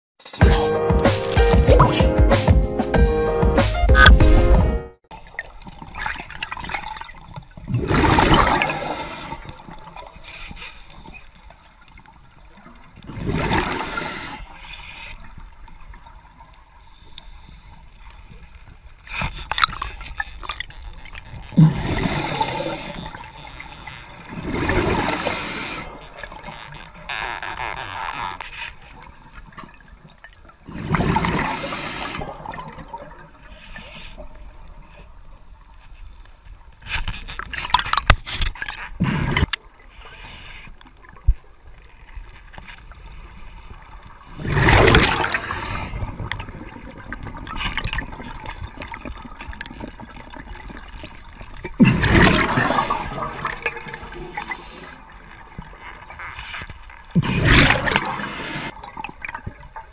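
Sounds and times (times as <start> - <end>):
underwater rushing and bubbling: 1.2 - 2.3, 3.8 - 59.9.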